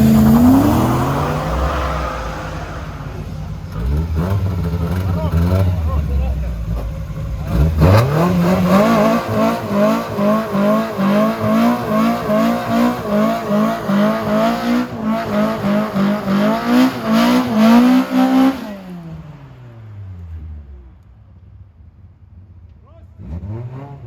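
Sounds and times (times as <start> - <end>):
car engine revving: 0.0 - 21.1, 23.2 - 24.0.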